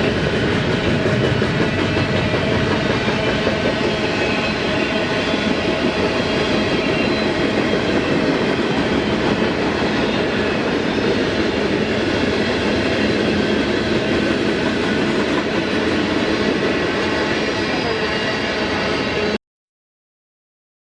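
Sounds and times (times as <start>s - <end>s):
train wheels clacking on rails: 0.0s - 19.4s.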